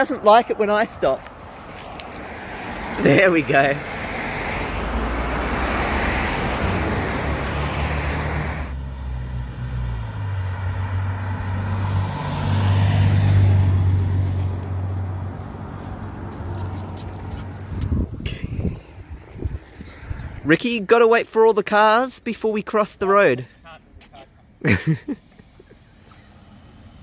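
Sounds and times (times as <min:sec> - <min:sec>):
car engine humming: 0:00.0 - 0:19.8, 0:23.8 - 0:27.0
tyre and road noise: 0:00.0 - 0:27.0.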